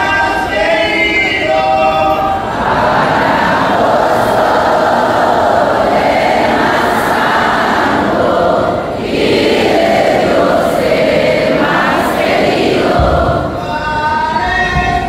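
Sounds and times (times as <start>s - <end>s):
crowd singing and chanting: 0.0s - 15.0s.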